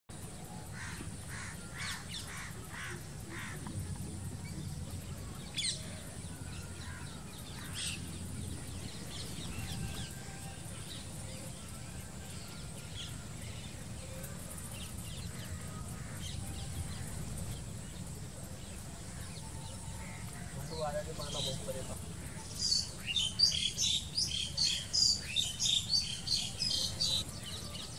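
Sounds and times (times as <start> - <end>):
birds calling: 0.7 - 12.1, 14.9 - 27.9.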